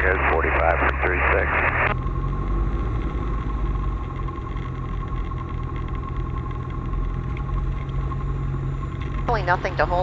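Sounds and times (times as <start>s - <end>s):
steady high whine: 0.0s - 10.0s.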